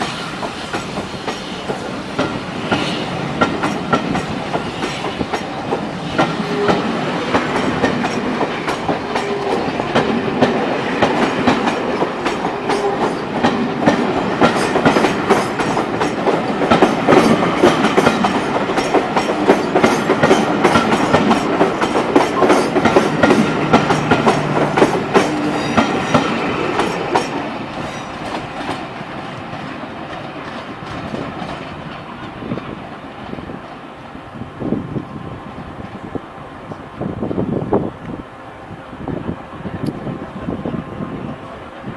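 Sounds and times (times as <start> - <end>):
train wheels clicking over rail joints: 0.0 - 34.2.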